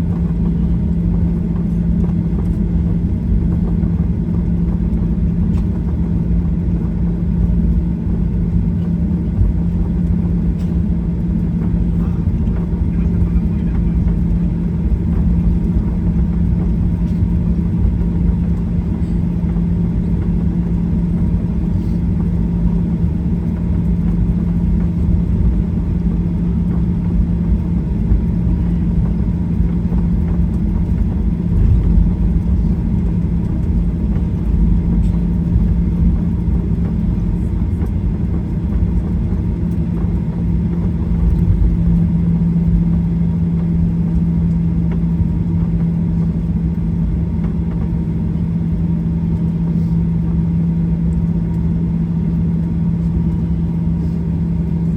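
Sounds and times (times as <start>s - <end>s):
constant low hum: 0.0s - 54.9s
jet engines idling: 0.0s - 54.9s.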